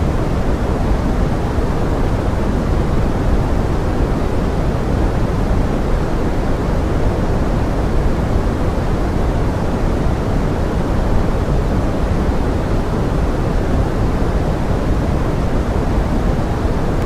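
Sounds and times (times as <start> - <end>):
pink noise: 0.0 - 17.0.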